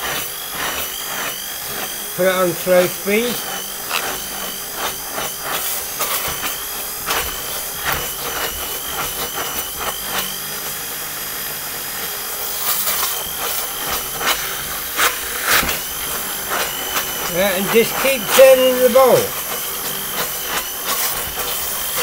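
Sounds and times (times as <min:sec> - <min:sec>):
hand blender motor whine: 0:00.0 - 0:22.0.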